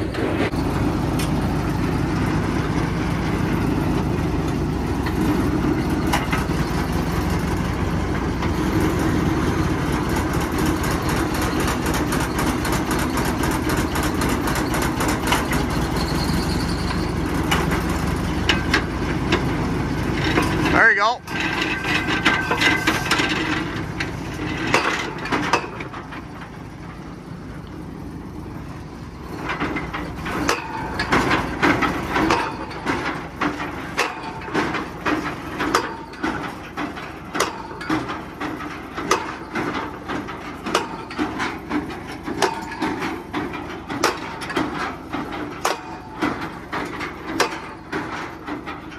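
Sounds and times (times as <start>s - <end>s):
drilling rig knocking: 0.0s - 48.9s
engine hum: 0.0s - 48.9s.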